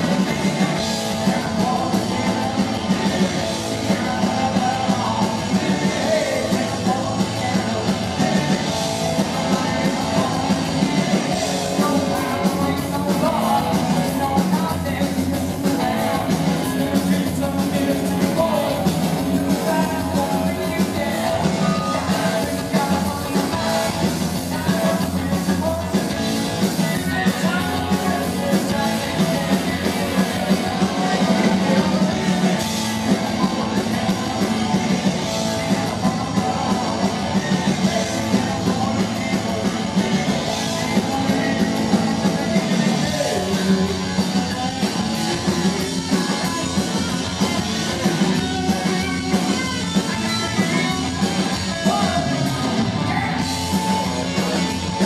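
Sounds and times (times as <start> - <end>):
man singing: 0.0 - 55.0
punk rock band playing: 0.0 - 55.0.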